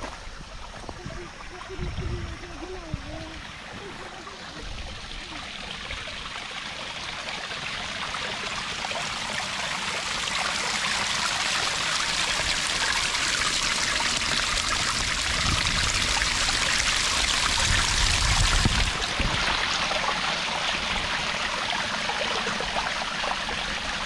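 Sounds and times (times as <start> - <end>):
small waterfall splashing: 0.0 - 24.0.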